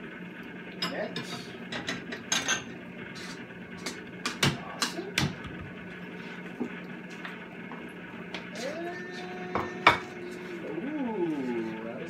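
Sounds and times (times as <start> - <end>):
low hum: 1.4 - 12.0.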